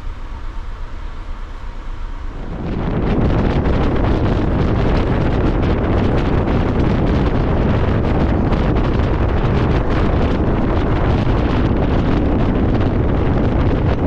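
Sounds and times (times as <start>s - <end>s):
train running noise: 0.0s - 14.0s
wind rushing over microphone: 1.6s - 14.0s.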